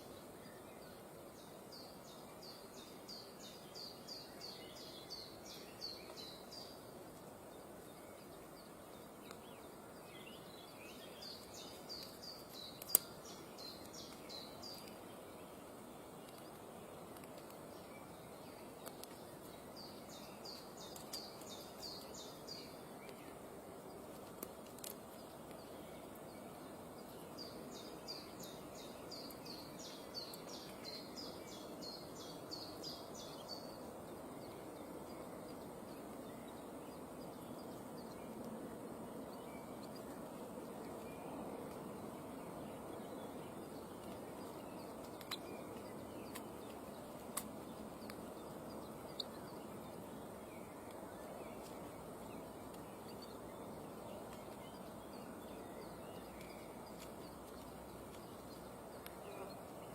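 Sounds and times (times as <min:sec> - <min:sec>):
low background hiss: 0:00.0 - 0:59.9.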